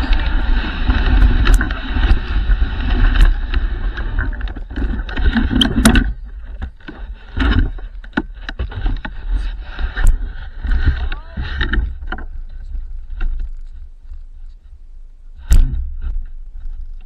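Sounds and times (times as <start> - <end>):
sled rattling and clicking: 0.0 - 13.8.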